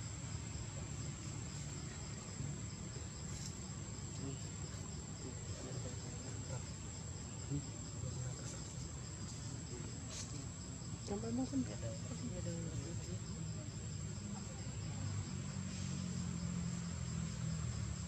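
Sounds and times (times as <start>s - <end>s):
insects chirring drone: 0.0s - 18.0s.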